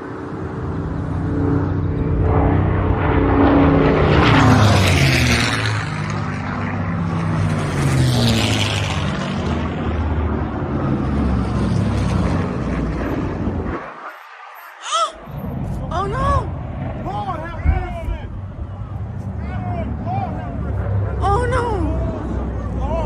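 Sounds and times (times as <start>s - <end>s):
propeller aircraft engines droning: 0.0s - 23.0s.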